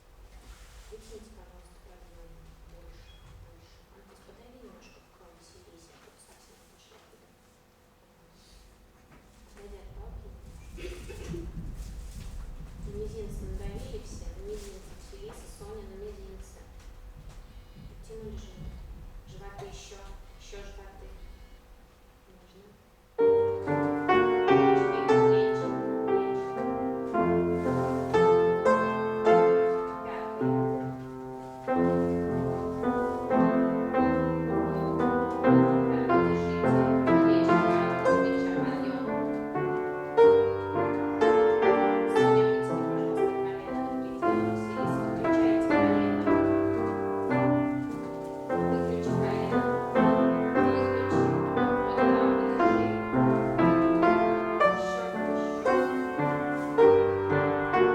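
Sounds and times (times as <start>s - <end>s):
classical piano music: 9.6s - 21.4s, 23.1s - 57.9s.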